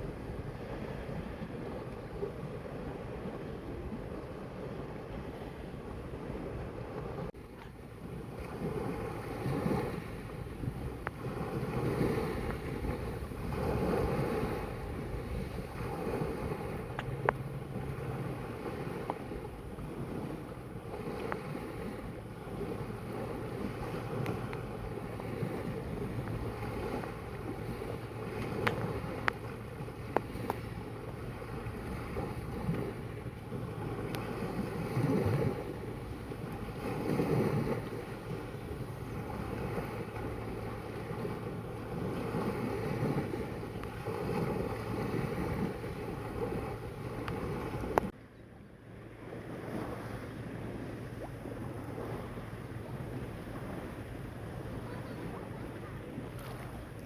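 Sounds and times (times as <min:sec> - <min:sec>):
sea waves washing in: 0:00.0 - 0:48.2, 0:48.8 - 0:57.0
wind buffeting microphone: 0:00.0 - 0:48.2, 0:48.8 - 0:57.0.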